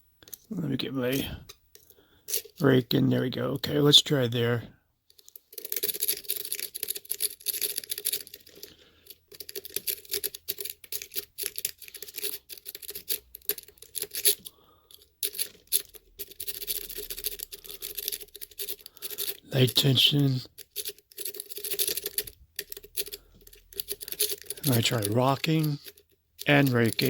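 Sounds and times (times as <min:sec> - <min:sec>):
lock pick scratching and clicking: 0:01.1 - 0:02.6, 0:05.2 - 0:27.0.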